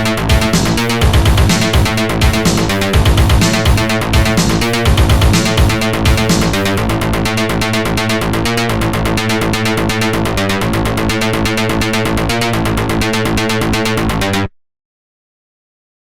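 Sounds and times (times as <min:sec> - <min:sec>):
pulsing synthesizer pattern: 0:00.0 - 0:13.7
steady bass line: 0:00.0 - 0:14.5.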